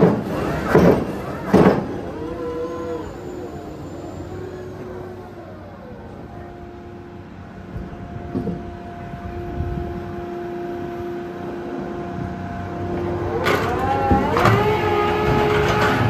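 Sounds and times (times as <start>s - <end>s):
heavy machinery rumble and whine: 0.0s - 16.0s.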